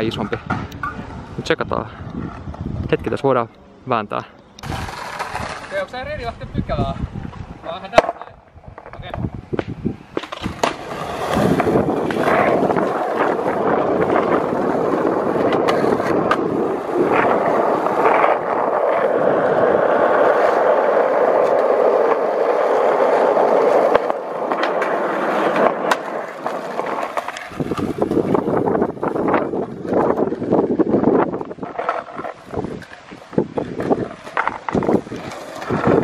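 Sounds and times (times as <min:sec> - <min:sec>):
skateboard wheels rolling on asphalt: 0:00.0 - 0:36.0.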